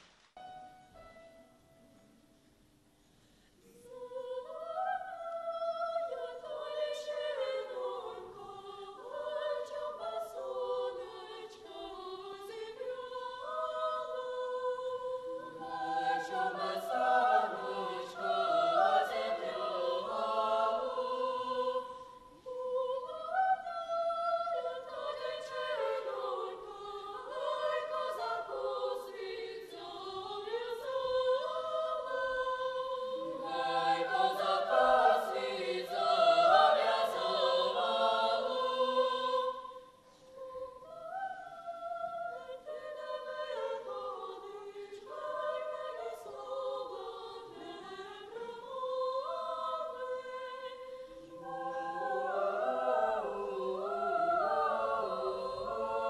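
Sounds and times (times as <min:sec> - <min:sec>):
children's choir singing: 0:03.7 - 0:56.0.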